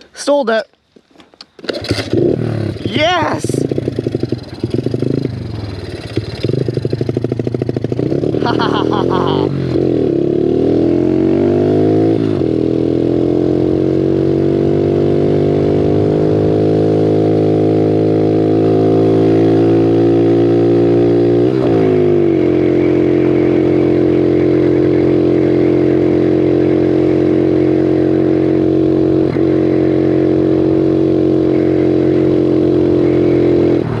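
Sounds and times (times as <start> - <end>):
motorbike engine revving: 1.6 - 34.0.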